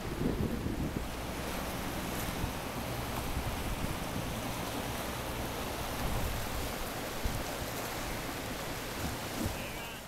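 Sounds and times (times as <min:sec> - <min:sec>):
choppy water: 0:00.0 - 0:10.0.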